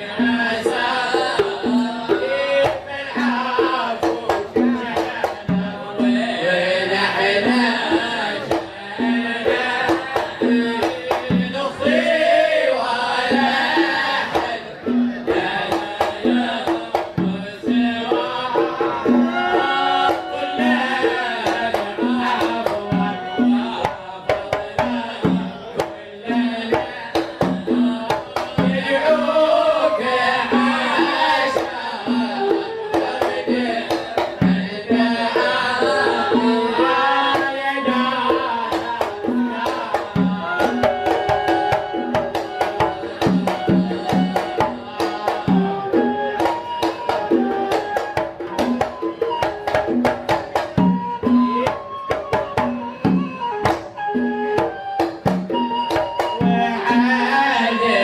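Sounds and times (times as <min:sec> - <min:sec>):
devotional singing: 0:00.0 - 0:58.0
hand drums beating: 0:00.0 - 0:58.0.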